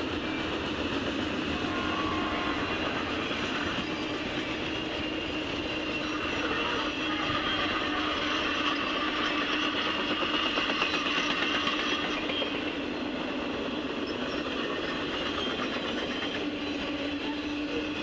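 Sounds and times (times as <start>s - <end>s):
clickety-clack over rail joints: 0.0s - 18.0s
freight train wheels rumbling: 0.0s - 18.0s.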